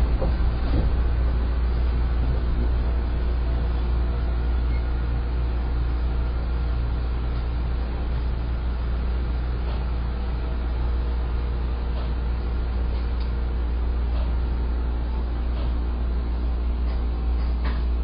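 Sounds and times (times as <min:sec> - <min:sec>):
electric train equipment hum: 0:00.0 - 0:18.0.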